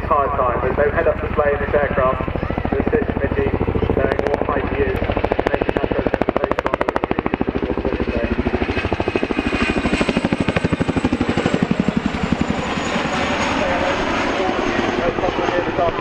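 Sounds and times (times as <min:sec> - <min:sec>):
helicopter rotor blades chopping: 0:00.0 - 0:16.0.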